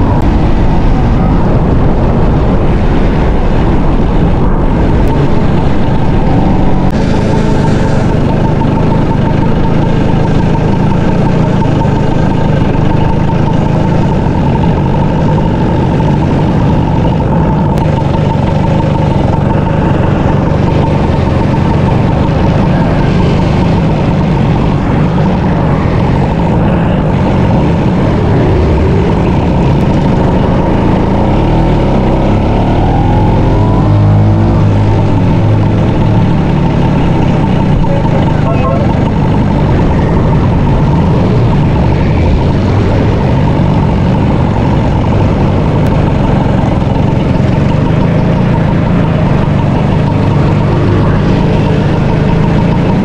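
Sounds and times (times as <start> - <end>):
scooter engine running: 0.0 - 53.0
wind and road noise: 0.0 - 53.0.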